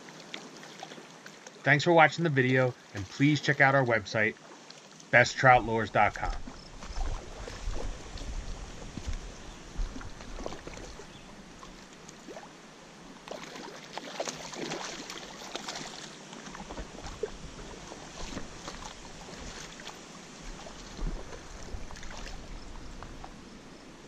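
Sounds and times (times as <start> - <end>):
stream water splashing around hand: 0.0 - 23.5.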